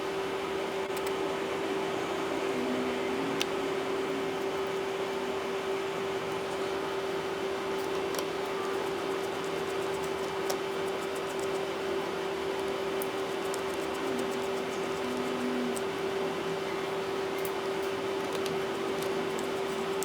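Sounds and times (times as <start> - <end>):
steady mid-pitched hum: 0.0 - 20.0.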